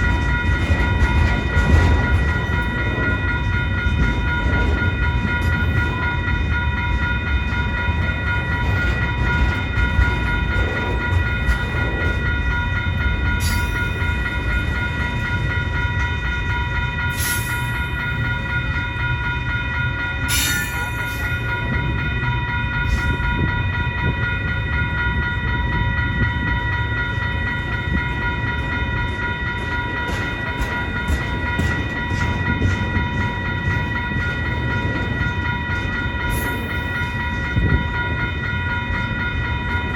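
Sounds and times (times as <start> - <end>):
freight train cars rumbling: 0.0 - 39.9
high ringing tones: 0.0 - 39.9.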